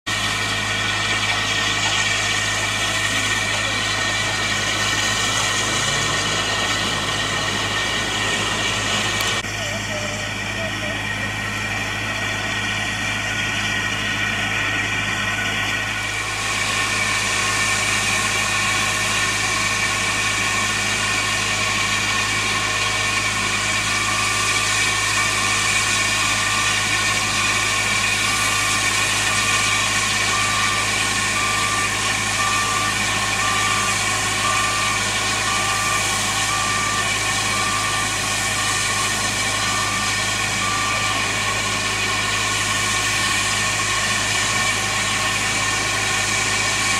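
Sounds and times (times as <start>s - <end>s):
steam hissing: 0.2s - 11.0s, 16.0s - 46.9s.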